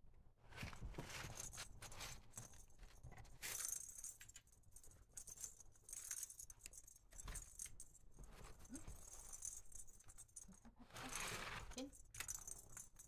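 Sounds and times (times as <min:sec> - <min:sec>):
toy balls jingling and rattling: 0:02.4 - 0:13.0.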